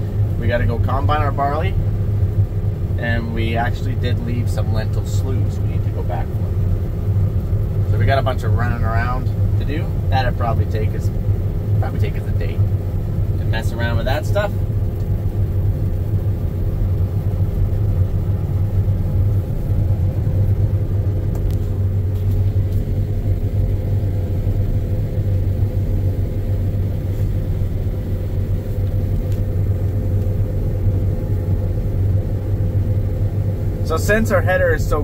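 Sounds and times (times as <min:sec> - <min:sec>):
combine harvester drone: 0:00.0 - 0:35.0
faint steady hum: 0:00.0 - 0:35.0.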